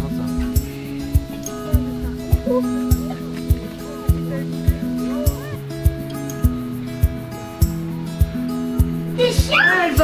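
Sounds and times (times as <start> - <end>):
acoustic guitar music with beat: 0.0 - 10.0.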